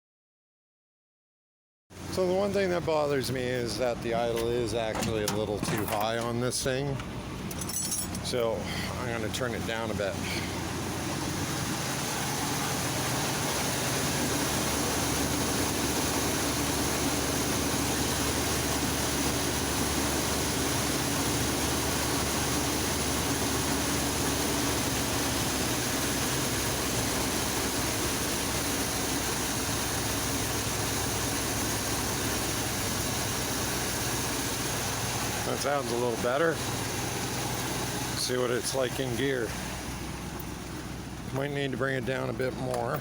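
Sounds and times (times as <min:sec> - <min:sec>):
pickup truck engine idling: 0:02.1 - 0:43.0.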